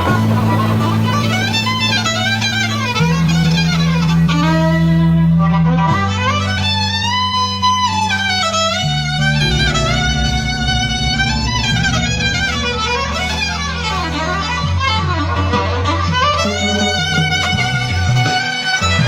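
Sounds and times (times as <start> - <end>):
violin with sliding notes: 0.0 - 19.0.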